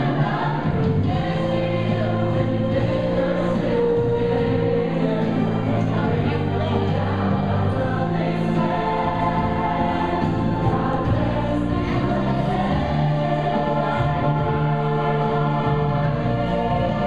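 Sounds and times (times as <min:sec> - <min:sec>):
choir singing long notes: 0:00.0 - 0:17.0
steady musical accompaniment: 0:00.0 - 0:17.0.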